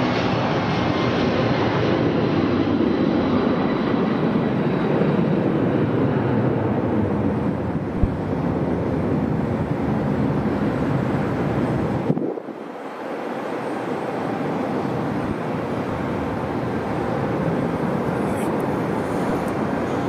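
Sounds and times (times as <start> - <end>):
jet engines at takeoff thrust: 0.0 - 20.0.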